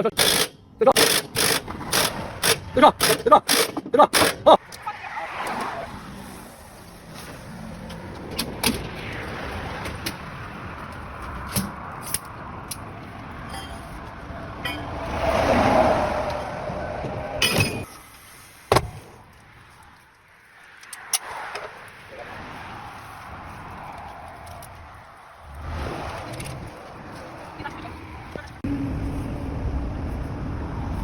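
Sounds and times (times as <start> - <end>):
steady vehicle noise: 0.0 - 31.0.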